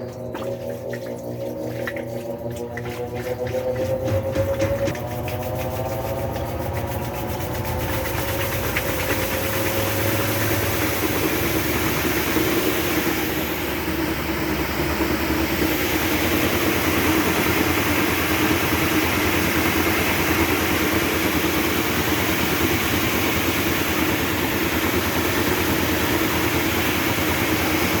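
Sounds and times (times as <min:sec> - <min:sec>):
washing machine running: 0:00.0 - 0:28.0
washing machine whine: 0:00.0 - 0:28.0.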